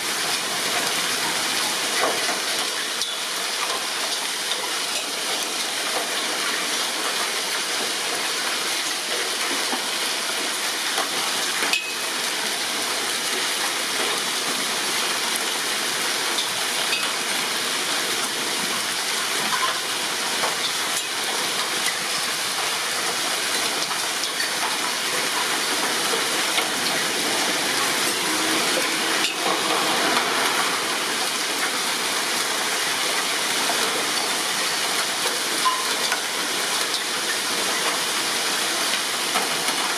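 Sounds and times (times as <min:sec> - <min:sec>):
heavy rain hissing: 0:00.0 - 0:39.9
hailstones ticking: 0:00.1 - 0:28.3, 0:30.2 - 0:39.9.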